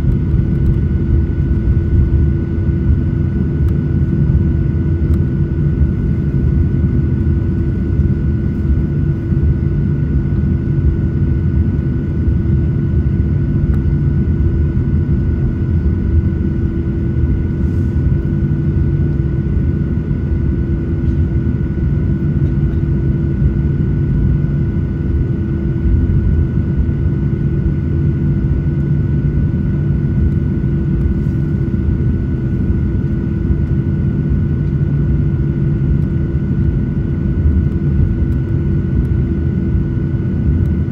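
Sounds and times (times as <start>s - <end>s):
airplane cabin rumble: 0.0s - 40.9s
jet engine whine: 0.0s - 40.9s.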